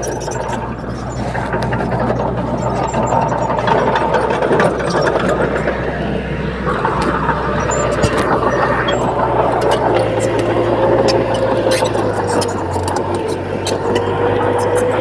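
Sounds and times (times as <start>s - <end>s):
diesel machine engine running: 0.0s - 15.0s.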